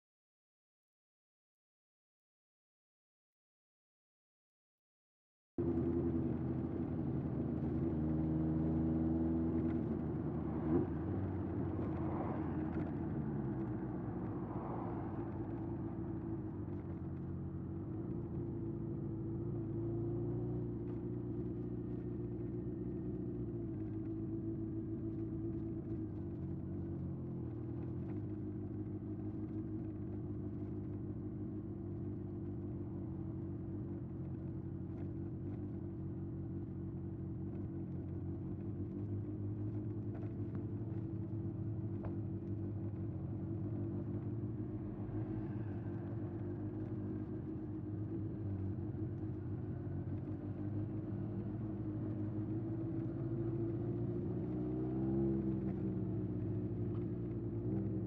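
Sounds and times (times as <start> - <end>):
motorcycle exhaust at steady revs: 5.6 - 58.0.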